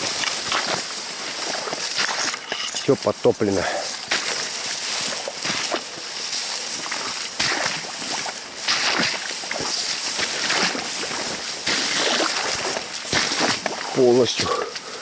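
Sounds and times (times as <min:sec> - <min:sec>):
footsteps through dry grass: 0:00.0 - 0:15.0.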